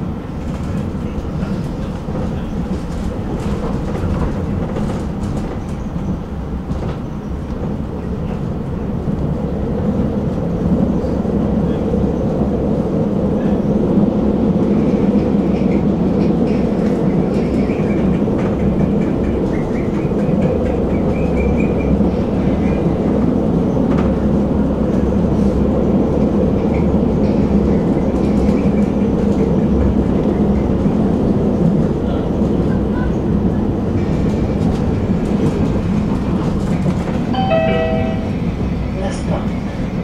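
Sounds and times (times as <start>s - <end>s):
tram wheels rumbling on rails: 0.0s - 40.0s.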